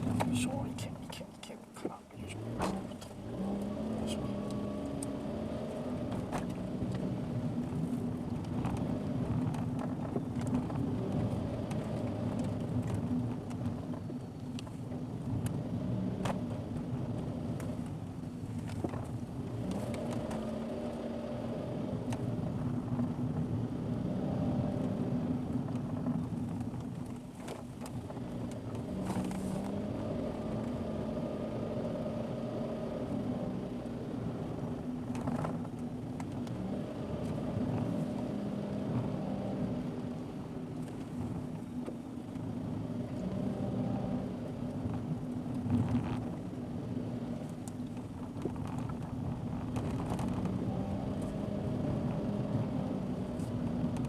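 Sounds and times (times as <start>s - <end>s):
car engine: 0.0s - 54.0s
road noise inside car: 0.0s - 54.0s.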